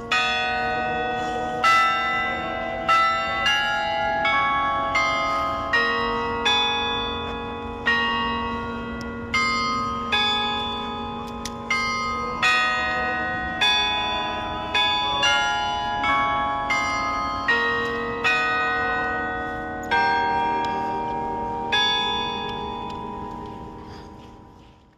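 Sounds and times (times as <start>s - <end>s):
carillon bells playing a melody: 0.0s - 24.9s.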